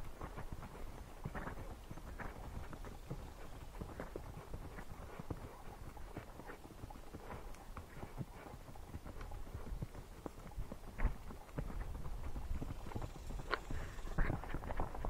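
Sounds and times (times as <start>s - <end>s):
hooves clip-clopping on dirt: 0.0s - 15.0s.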